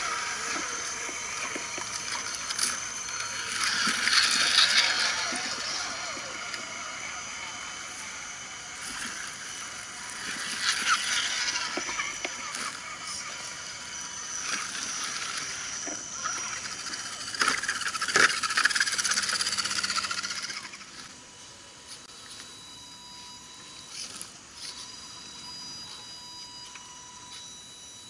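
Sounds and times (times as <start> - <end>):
electric motor and gear whine: 0.0 - 28.0.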